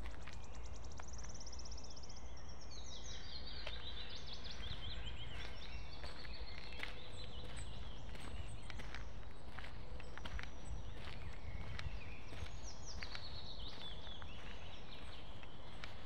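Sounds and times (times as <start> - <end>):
footsteps on dirt path: 0.0 - 1.4, 3.5 - 16.0
songbirds singing: 0.0 - 16.0.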